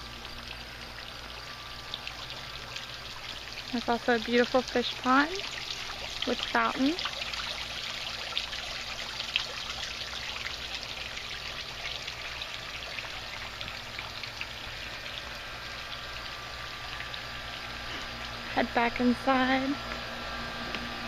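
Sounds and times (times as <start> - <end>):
fountain water splashing: 0.0 - 20.0.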